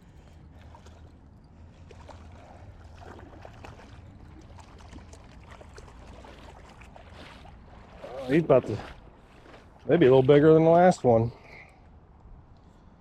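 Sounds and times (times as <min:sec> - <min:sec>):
creek water running and splashing: 0:00.0 - 0:11.3.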